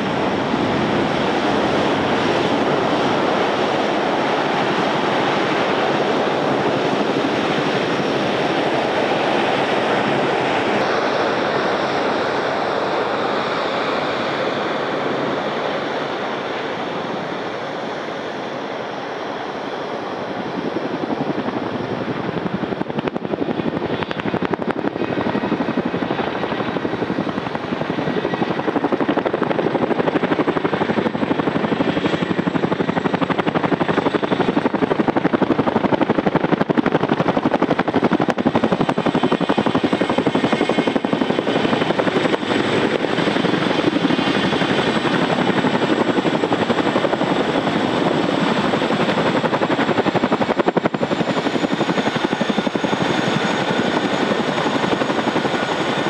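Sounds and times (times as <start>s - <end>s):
helicopter rotor beat: 0.0s - 56.0s
high turbine engine whine: 0.0s - 56.0s.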